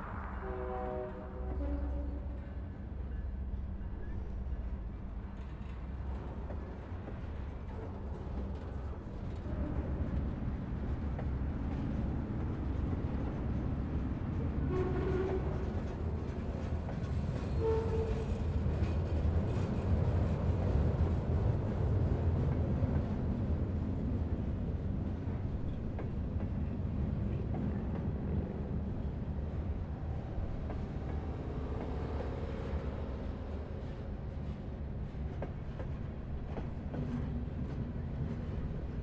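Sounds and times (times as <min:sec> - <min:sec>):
freight train rumble: 0:00.0 - 0:39.0.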